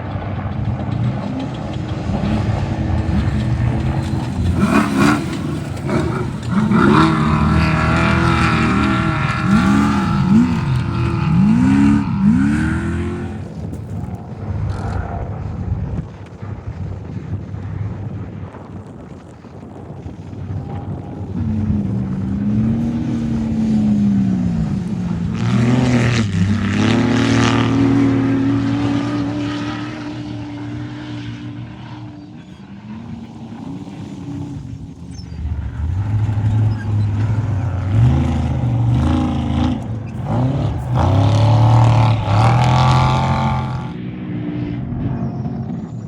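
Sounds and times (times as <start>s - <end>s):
race vehicle engines revving: 0.0s - 17.4s, 18.0s - 46.0s.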